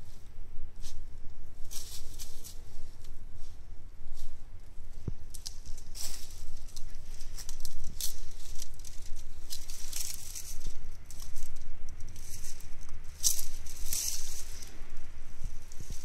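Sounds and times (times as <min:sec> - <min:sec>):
dry leaves rustling: 0:00.0 - 0:16.0.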